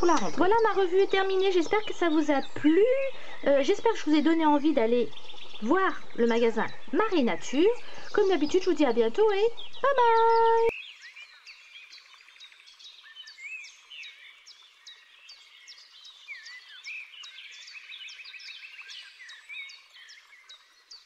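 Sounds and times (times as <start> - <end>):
small birds chirping and whistling: 0.0 - 21.0.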